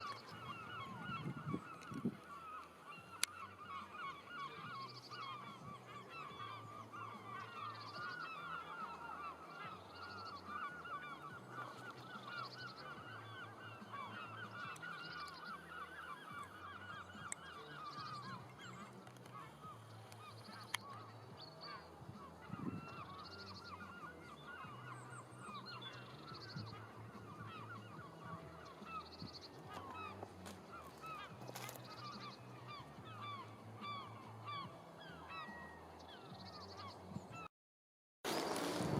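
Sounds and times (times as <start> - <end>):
distant flock of birds calling: 0.0 - 37.5.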